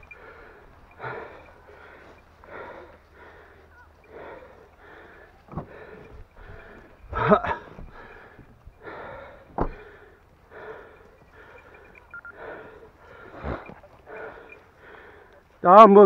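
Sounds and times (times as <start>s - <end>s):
heavy rasping panting: 0.0s - 15.6s.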